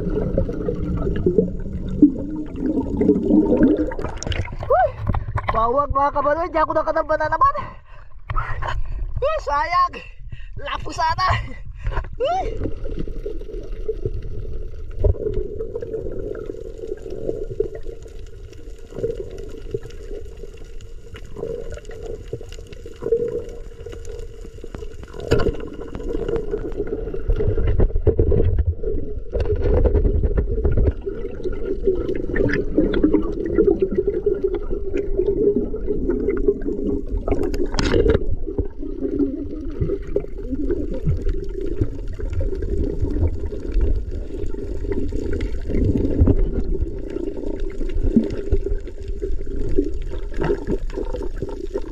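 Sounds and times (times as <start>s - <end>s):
muffled underwater rush of water: 0.0s - 51.9s.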